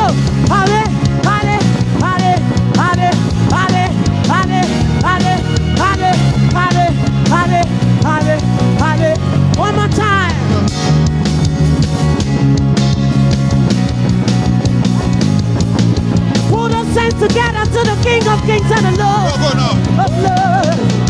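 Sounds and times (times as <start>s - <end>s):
praise band music: 0.0s - 21.0s.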